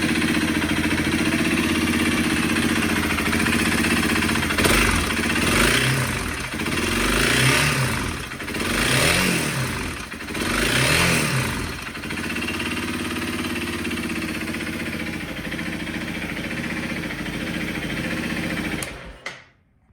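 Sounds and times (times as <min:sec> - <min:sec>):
motorcycle engine revving and idling: 0:00.0 - 0:19.2.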